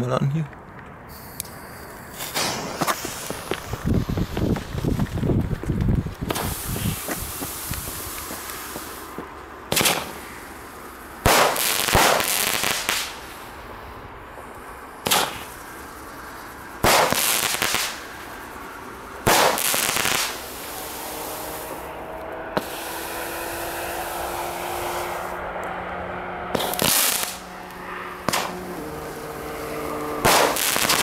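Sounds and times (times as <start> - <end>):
sharp crack: 0.8 - 5.1, 6.2 - 13.8, 14.4 - 16.2, 16.8 - 18.6, 19.2 - 24.2, 26.5 - 31.0
fireworks bursts: 1.1 - 25.4, 26.4 - 31.0
fireworks hissing: 1.1 - 25.4, 26.5 - 31.0.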